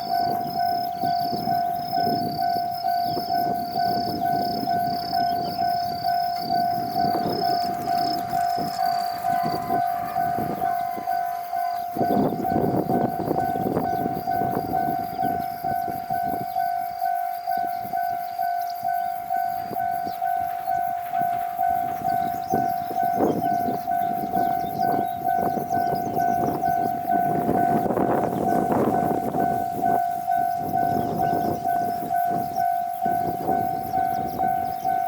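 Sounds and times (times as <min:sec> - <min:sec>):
level-crossing alarm ringing: 0:00.0 - 0:35.0
train wheels on track: 0:00.0 - 0:35.0.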